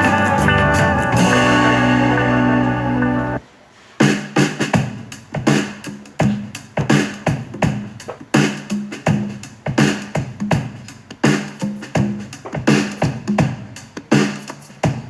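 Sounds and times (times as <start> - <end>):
electronic music with drum-machine beat: 0.0 - 3.4, 4.0 - 15.0.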